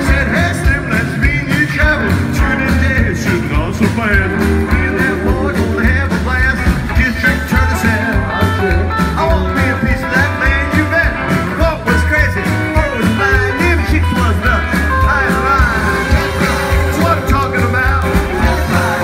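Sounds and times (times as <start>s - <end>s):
drums: 0.0s - 19.0s
electric guitar: 0.0s - 19.0s
person singing: 0.0s - 19.0s
rockabilly band playing live: 0.0s - 19.0s.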